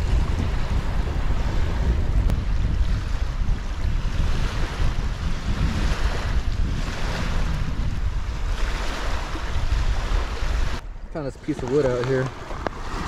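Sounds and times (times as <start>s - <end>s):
lake waves against bank: 0.0s - 13.0s
wind buffeting microphone: 0.0s - 13.0s.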